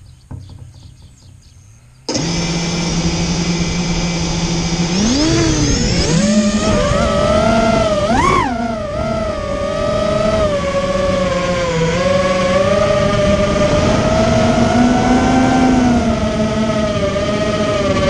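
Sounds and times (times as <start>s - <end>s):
drone motors whining: 2.1s - 18.0s.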